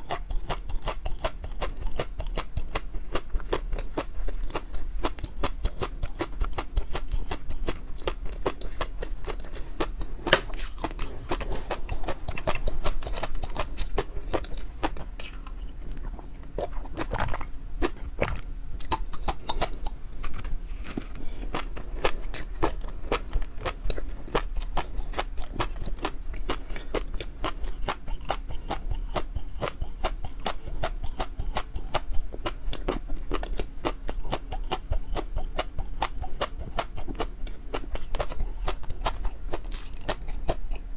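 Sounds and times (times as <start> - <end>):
person chewing with wet mouth clicks: 0.0 - 40.9.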